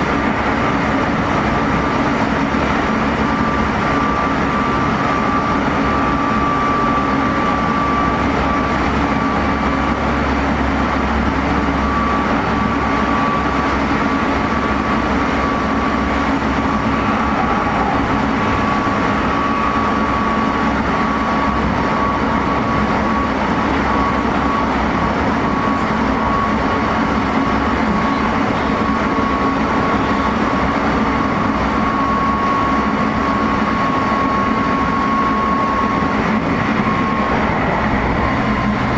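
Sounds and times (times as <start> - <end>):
train wheels on rails: 0.0 - 38.9
high-pitched motor whine: 0.2 - 38.9.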